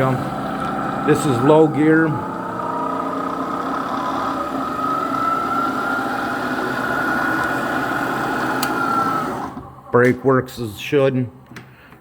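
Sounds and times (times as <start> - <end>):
milling machine spindle whine: 0.0 - 11.2.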